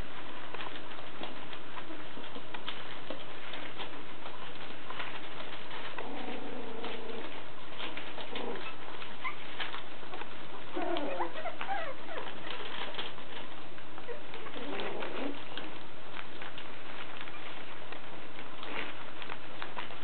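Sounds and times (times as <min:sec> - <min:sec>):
paper rustling: 0:00.0 - 0:20.0
paws pattering: 0:00.0 - 0:20.0
puppies whining: 0:00.0 - 0:20.0.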